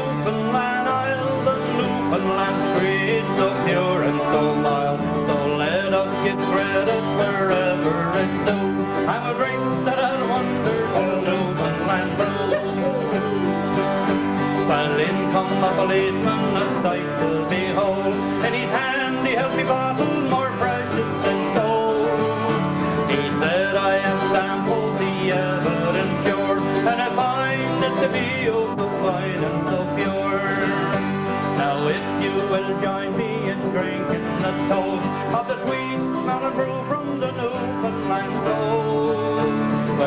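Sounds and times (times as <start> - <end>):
acoustic guitars strumming: 0.0 - 40.0
mandolin plucked melody: 0.0 - 40.0.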